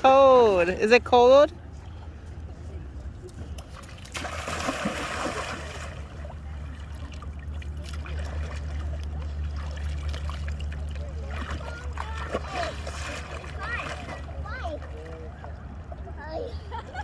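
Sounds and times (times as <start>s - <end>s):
shallow water splashing and trickling: 3.1s - 17.0s.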